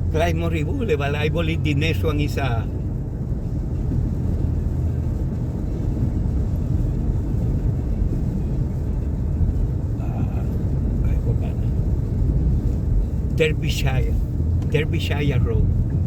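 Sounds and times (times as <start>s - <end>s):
car road rumble from inside: 0.0s - 16.0s.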